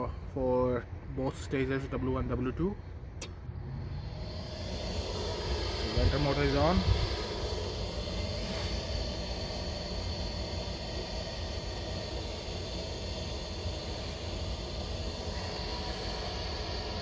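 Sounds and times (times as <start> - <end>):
furnace vent motor humming: 0.0 - 17.0.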